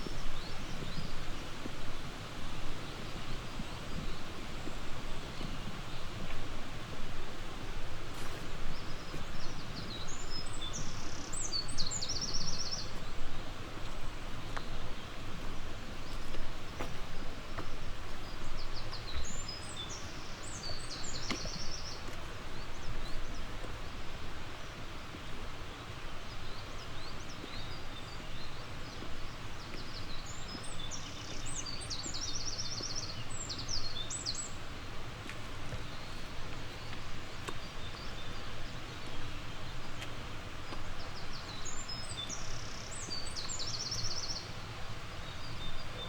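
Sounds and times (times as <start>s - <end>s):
stream water flowing: 0.0s - 46.0s.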